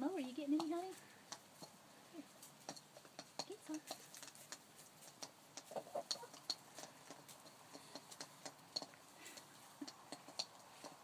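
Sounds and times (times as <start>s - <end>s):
chickens pecking a bowl: 0.0s - 11.0s.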